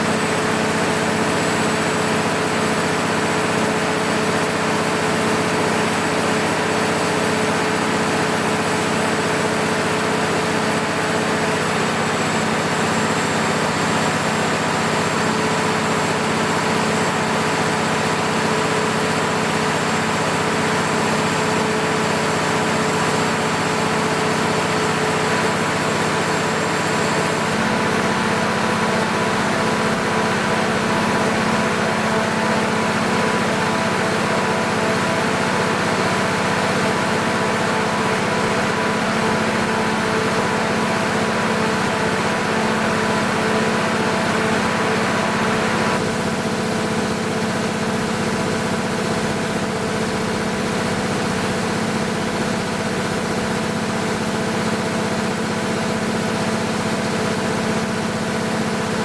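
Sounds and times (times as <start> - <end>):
diesel generator running: 0.0 - 59.0.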